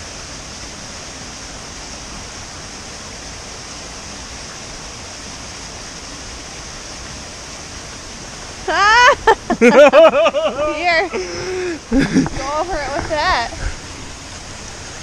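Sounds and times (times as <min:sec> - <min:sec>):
small waterfall pouring: 0:00.0 - 0:15.0.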